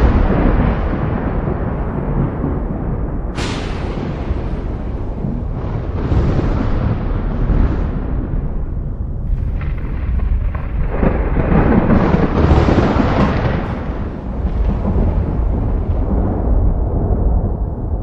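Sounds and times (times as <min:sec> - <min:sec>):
rolling thunder: 0:00.0 - 0:18.0.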